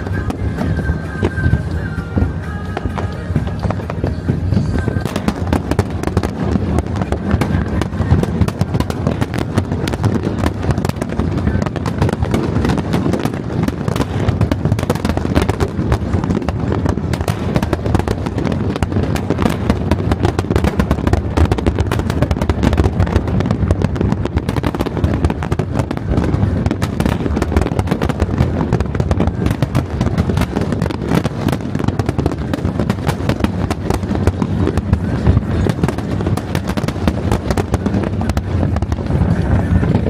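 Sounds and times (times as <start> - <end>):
fireworks bangs and crackling: 0.0 - 40.0
low rumble: 0.0 - 40.0.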